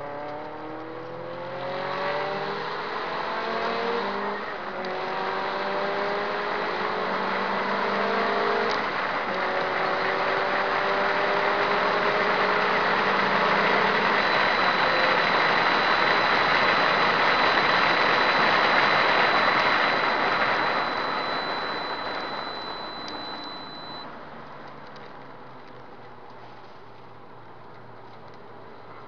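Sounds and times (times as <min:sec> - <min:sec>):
car engine accelerating: 0:00.0 - 0:24.0
wind and road noise: 0:00.0 - 0:29.0.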